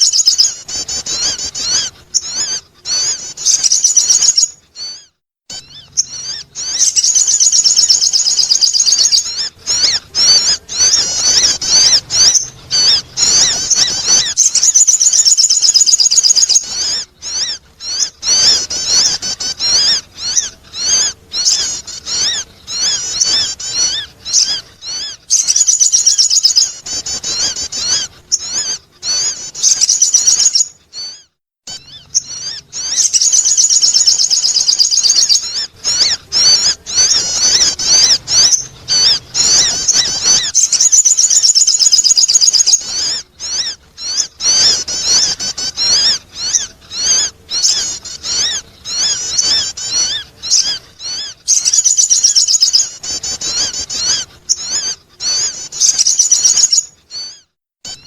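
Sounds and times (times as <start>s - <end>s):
bird chattering trills: 0.0s - 58.0s.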